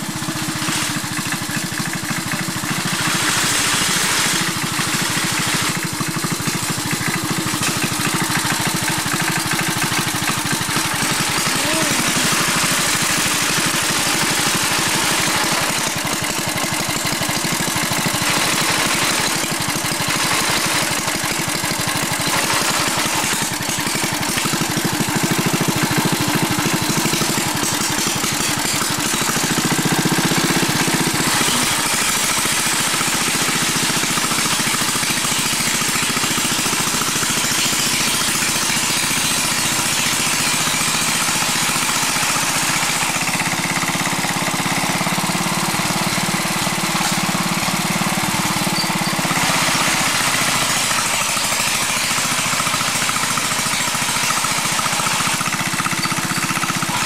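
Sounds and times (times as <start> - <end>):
mower engine running: 0.0 - 57.0.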